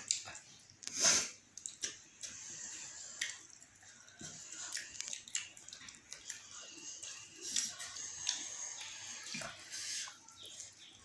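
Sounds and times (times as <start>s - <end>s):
chewing: 0.0s - 11.0s
fingers mixing rice on plates: 0.0s - 11.0s.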